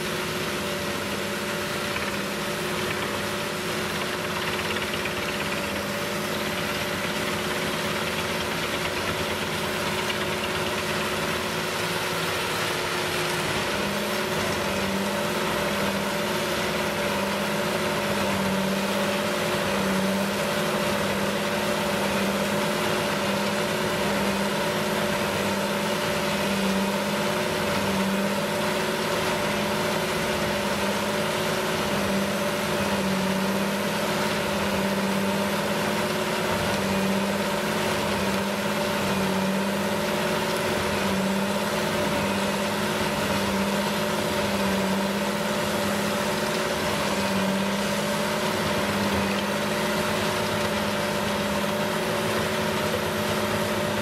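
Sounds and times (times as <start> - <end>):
tractor diesel engine under load: 0.0 - 54.0
wood chipper chipping brush: 0.0 - 54.0.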